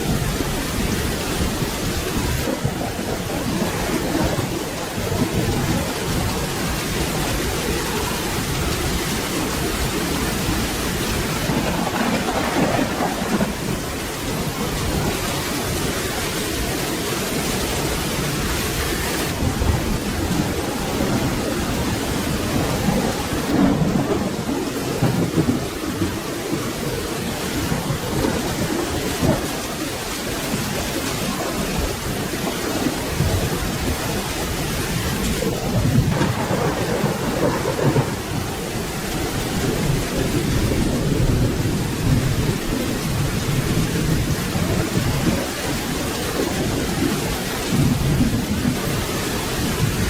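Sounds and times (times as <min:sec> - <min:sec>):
low rolling thunder: 0:00.0 - 0:50.0
steady rain falling: 0:00.0 - 0:50.0.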